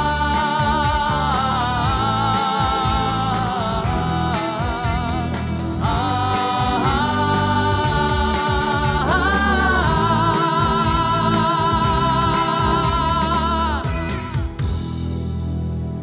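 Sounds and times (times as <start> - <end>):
folk-pop band playing: 0.0 - 15.5.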